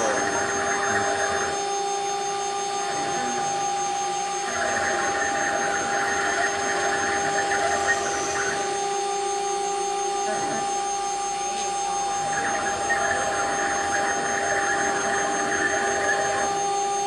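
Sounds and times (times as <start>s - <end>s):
spindle motors whining: 0.0s - 17.0s.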